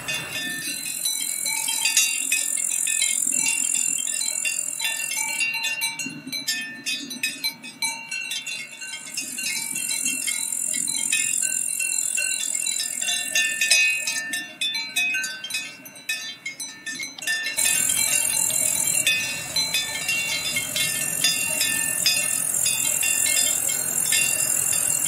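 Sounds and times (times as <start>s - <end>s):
cowbells clanking: 0.0s - 25.0s.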